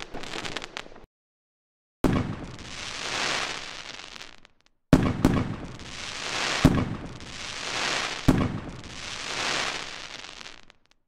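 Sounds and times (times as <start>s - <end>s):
fireworks bangs: 0.0s - 1.1s, 2.0s - 10.8s
fireworks crackling hiss: 0.0s - 1.1s, 2.3s - 4.5s, 5.1s - 11.0s.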